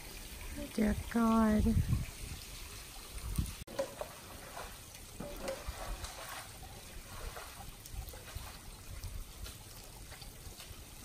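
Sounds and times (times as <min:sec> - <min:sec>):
small drips and splashes: 0:00.0 - 0:11.0
water trickling and spattering: 0:00.0 - 0:11.0.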